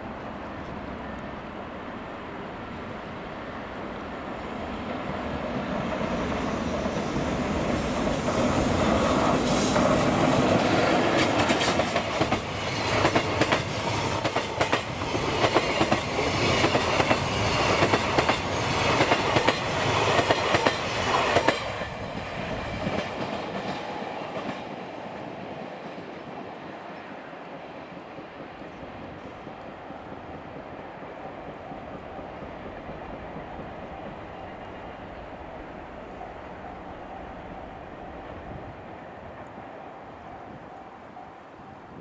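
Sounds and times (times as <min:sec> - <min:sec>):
electric locomotive passing: 0:00.0 - 0:42.0
train rumble: 0:00.0 - 0:42.0.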